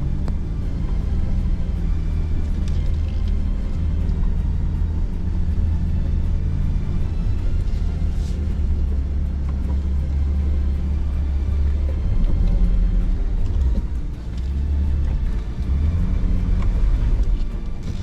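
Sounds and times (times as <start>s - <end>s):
background music: 0.0s - 18.0s
off-road vehicle engine rumble: 0.0s - 18.0s.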